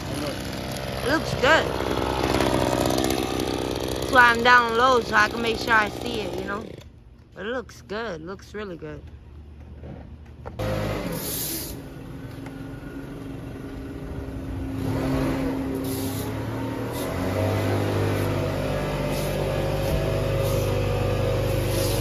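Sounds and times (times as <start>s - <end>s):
engine starting and running: 0.0s - 7.3s, 9.8s - 22.0s.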